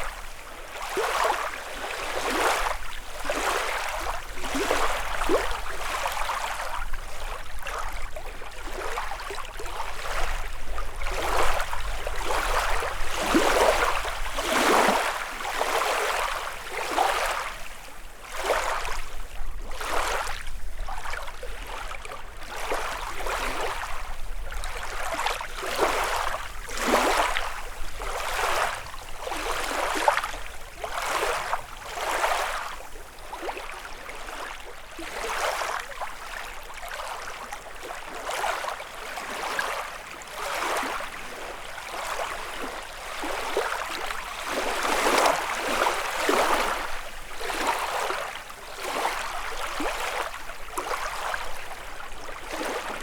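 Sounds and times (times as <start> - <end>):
waves lapping at shore: 0.0 - 53.0.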